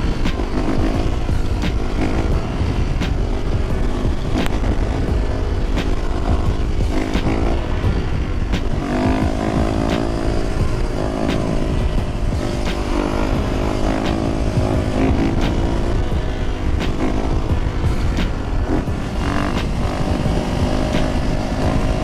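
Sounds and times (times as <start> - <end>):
motorcycle engine running: 0.0 - 22.0
wind rumble on microphone: 0.0 - 22.0.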